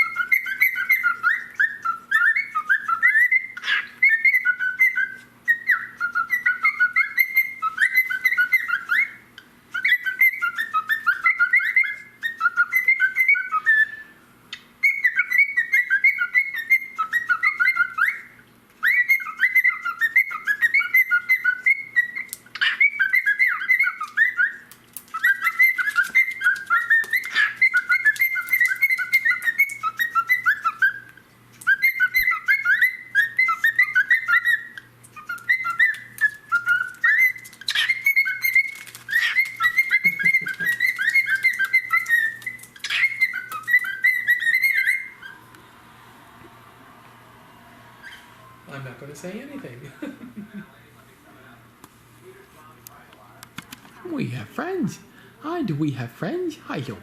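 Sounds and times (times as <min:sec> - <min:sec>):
cockatiel warbling: 0:00.0 - 0:45.6, 0:47.8 - 0:48.6.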